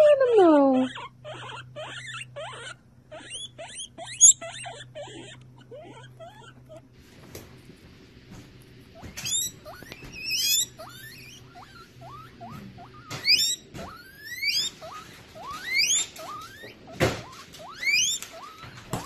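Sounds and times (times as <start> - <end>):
guinea pig squeaks: 0.0 - 6.9, 8.8 - 19.0
guinea pig wheeking: 0.0 - 7.0, 8.8 - 19.0.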